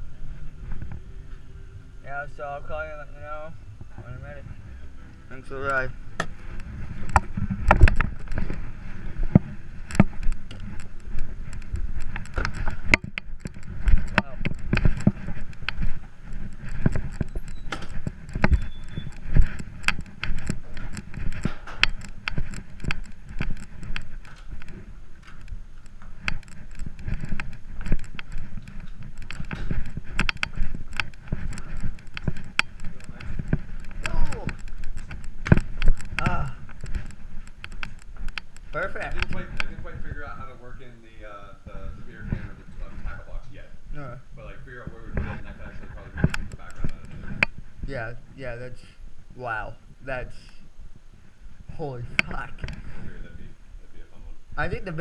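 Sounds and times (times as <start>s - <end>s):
clothing rubbing against camera: 2.3s - 49.1s, 51.3s - 53.6s.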